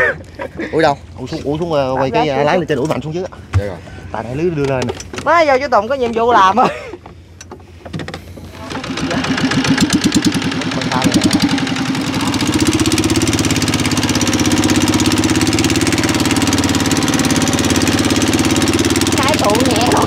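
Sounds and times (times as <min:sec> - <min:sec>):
boat engine revving: 0:00.0 - 0:20.0.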